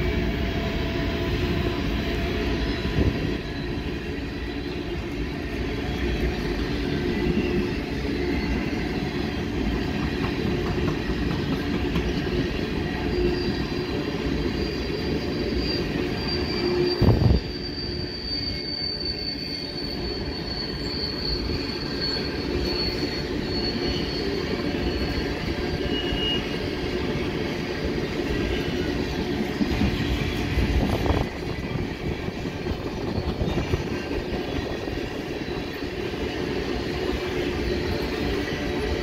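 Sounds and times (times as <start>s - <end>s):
high wheel squeal: 0.0s - 39.0s
train wheels rumbling on rail: 0.0s - 39.0s.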